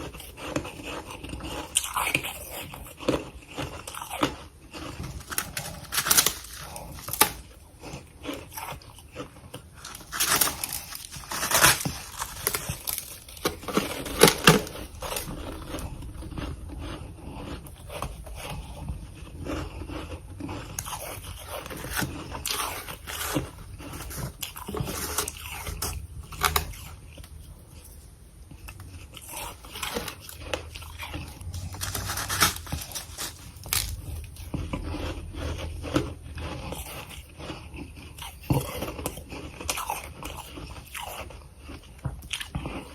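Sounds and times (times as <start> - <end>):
frost being chewed: 0.0 - 42.9.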